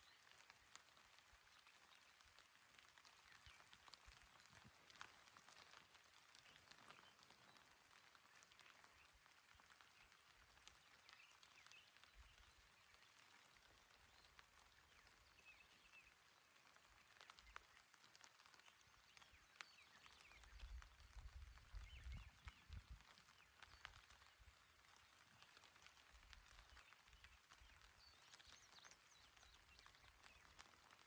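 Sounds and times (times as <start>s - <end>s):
gentle rain patter: 0.0s - 31.0s.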